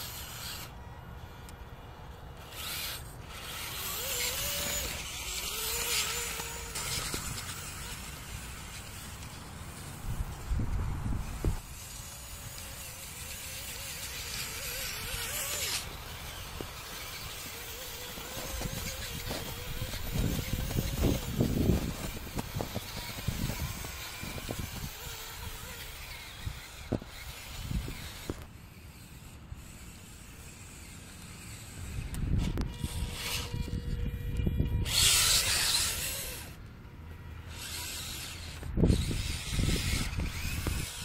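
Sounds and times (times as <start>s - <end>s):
small electric motor whine: 0.0s - 41.0s.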